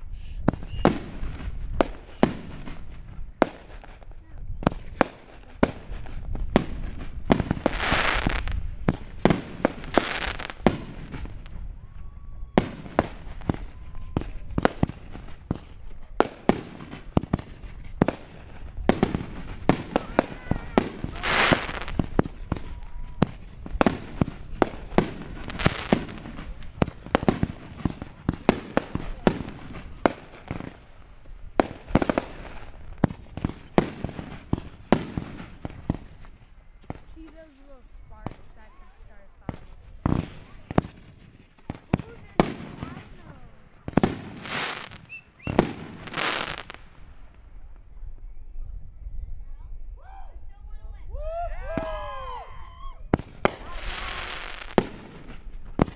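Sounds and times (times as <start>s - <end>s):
fireworks crackling: 0.1s - 47.9s, 51.7s - 55.9s
fireworks bangs and pops: 0.4s - 11.8s, 12.5s - 47.9s, 53.1s - 55.9s.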